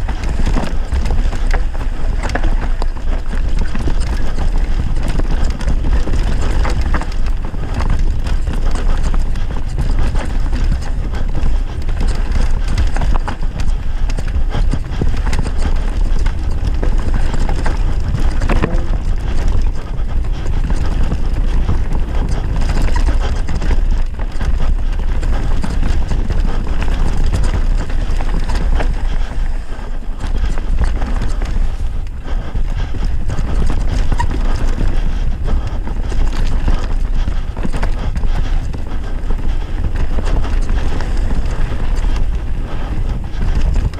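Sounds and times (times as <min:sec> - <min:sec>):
bike rattling over bumps: 0:00.0 - 0:43.9
tyres on dirt trail: 0:00.0 - 0:43.9
wind on microphone: 0:00.0 - 0:43.9.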